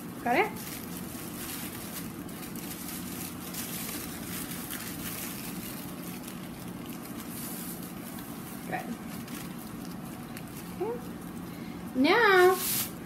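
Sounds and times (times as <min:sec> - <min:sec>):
steady low hum: 0:00.0 - 0:13.0
tissue paper rustling: 0:00.4 - 0:11.6, 0:12.2 - 0:13.0.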